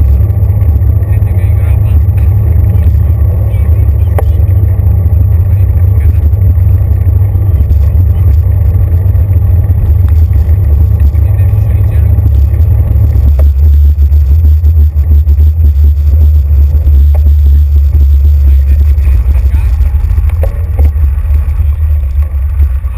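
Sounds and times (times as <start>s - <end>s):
bicycle rolling rumble: 0.0s - 22.9s.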